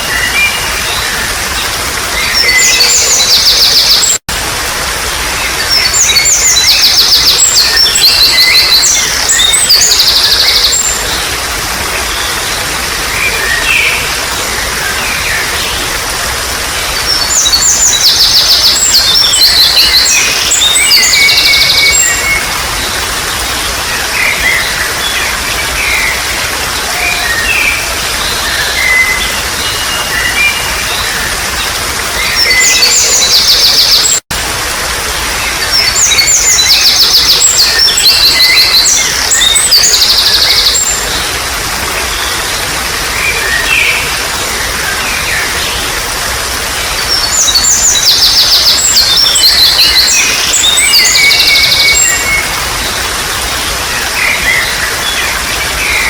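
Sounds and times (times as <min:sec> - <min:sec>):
birds singing and chirping: 0:00.0 - 0:34.2, 0:35.0 - 0:56.0
trickling water: 0:00.0 - 0:56.0.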